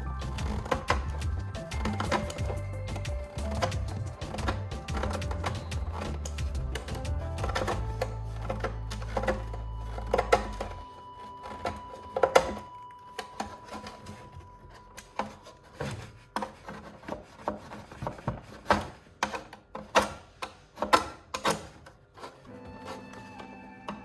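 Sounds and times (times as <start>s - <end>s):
knife blade scraping plastic: 0.0s - 24.0s.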